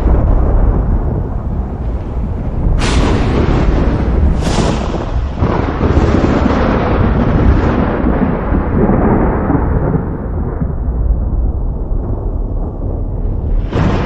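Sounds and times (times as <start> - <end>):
thunder crack and rumble: 0.0 - 14.0.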